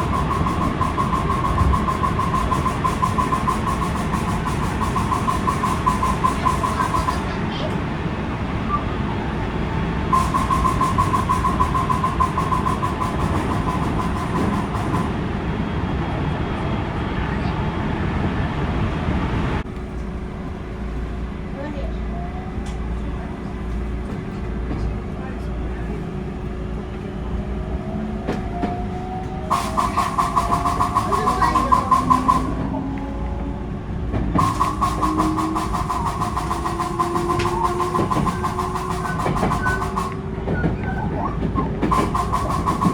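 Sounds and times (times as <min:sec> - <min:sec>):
rapid clacking under train floor: 0:00.0 - 0:16.4, 0:22.6 - 0:42.9
train running noise: 0:00.0 - 0:42.9.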